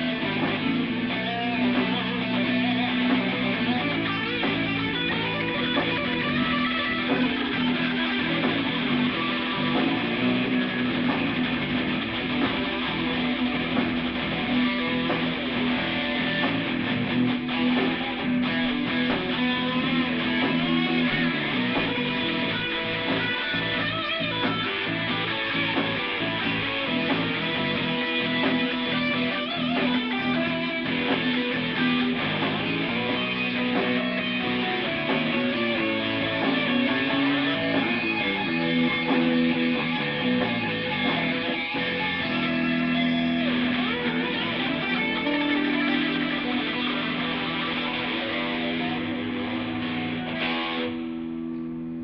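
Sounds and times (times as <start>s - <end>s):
electric guitar chords and notes: 0.0s - 52.0s.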